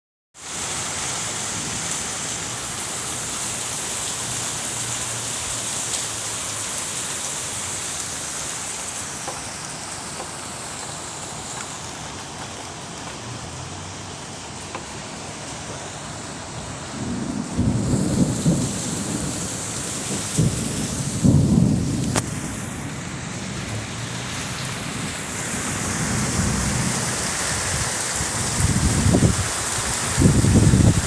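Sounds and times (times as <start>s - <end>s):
steady rain falling: 0.4s - 31.0s.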